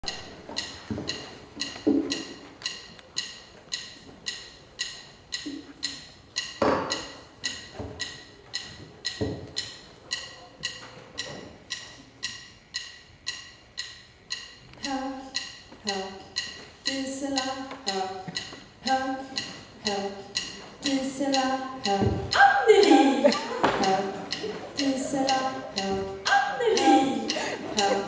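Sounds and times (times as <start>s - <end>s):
clock ticking: 0.0s - 28.0s.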